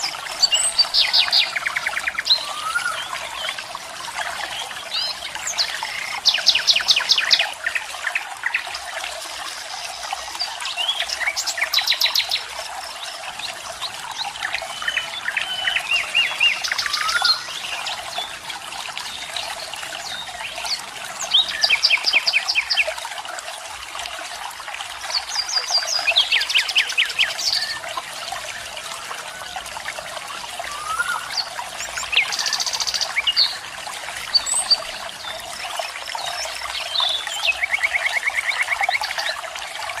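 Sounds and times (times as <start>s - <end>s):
birds singing: 0.0s - 8.7s, 10.2s - 22.9s, 25.1s - 29.6s, 30.3s - 40.0s
flowing water: 0.0s - 40.0s.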